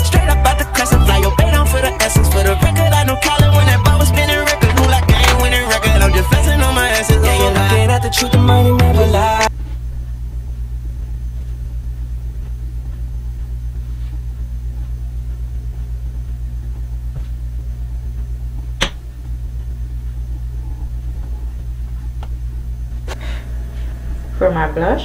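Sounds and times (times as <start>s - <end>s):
low pulsing hum: 0.0s - 25.0s.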